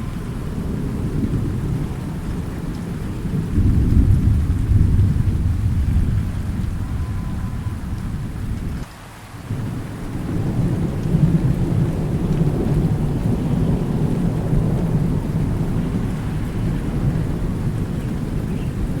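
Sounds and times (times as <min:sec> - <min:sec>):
low rolling thunder: 0:00.0 - 0:19.0
steady rain: 0:00.0 - 0:19.0.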